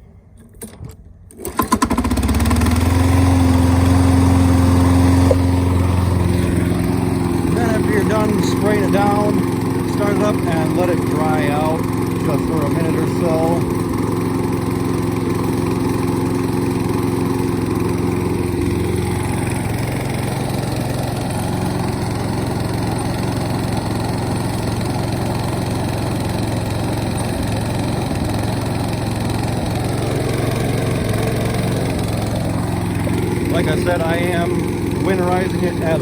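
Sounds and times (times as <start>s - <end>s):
lawn mower engine running: 0.4s - 36.0s.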